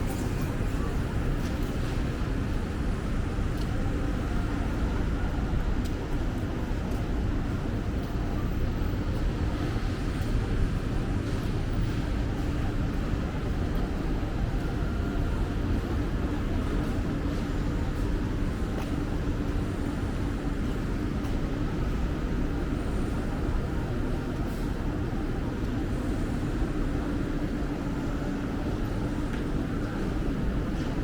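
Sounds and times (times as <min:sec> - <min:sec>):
faint constant hum: 0:00.0 - 0:31.0.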